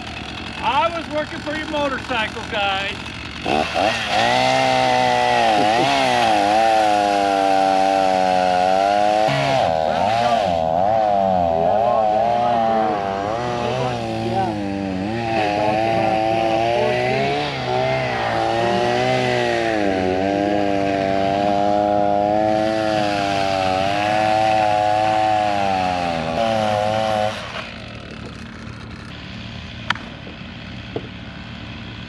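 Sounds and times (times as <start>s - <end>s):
chainsaw cutting under load: 0.0s - 32.0s.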